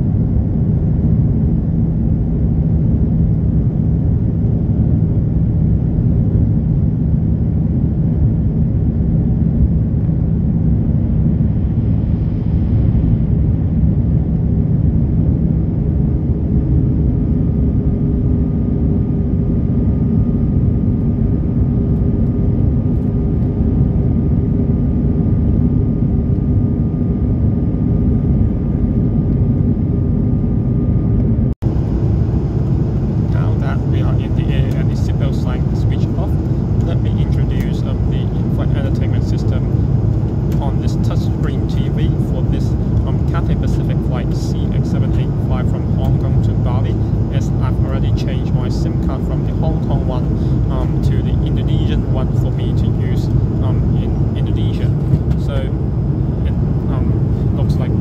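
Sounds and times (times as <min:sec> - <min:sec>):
aircraft cabin engine roar: 0:00.0 - 0:58.0.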